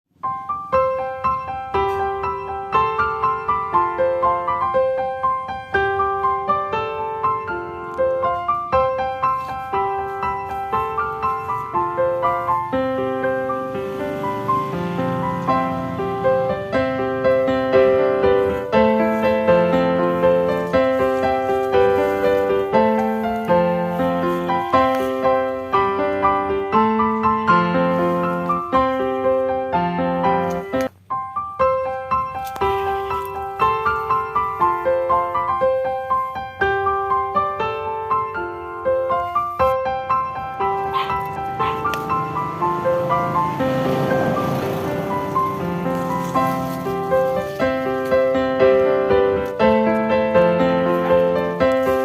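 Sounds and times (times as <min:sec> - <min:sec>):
gentle piano music: 0:00.1 - 0:52.0.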